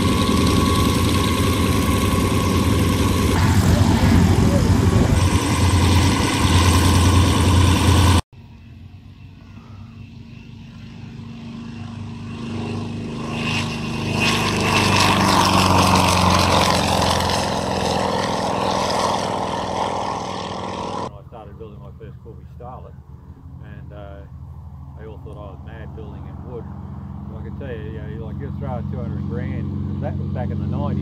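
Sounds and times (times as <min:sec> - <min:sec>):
aircraft engine approaching: 0:00.0 - 0:31.0
light aircraft engine running close: 0:00.0 - 0:31.0.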